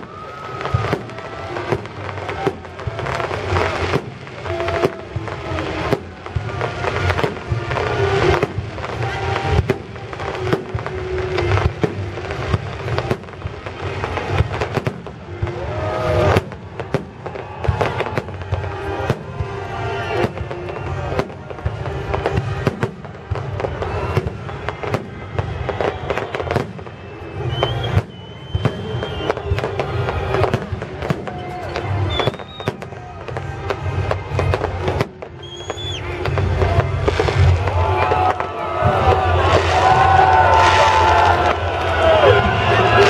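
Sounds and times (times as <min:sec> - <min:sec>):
firework whistle: 0:00.0 - 0:43.0
fireworks bangs: 0:00.0 - 0:43.0.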